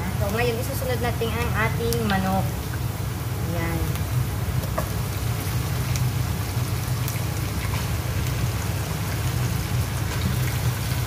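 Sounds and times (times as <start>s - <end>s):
steady low hum: 0.0s - 11.0s
chicken sizzling in hot oil: 0.1s - 11.0s.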